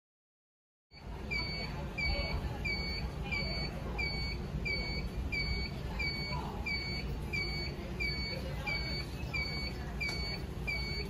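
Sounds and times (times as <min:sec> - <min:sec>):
alarm panel beeping: 0:00.9 - 0:11.0.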